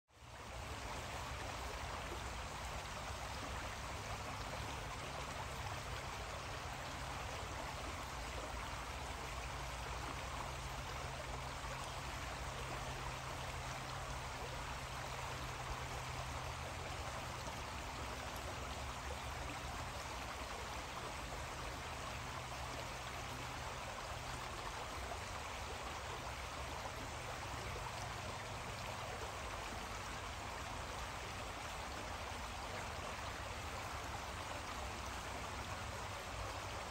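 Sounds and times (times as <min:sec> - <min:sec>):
creek water rushing: 0:00.1 - 0:36.9.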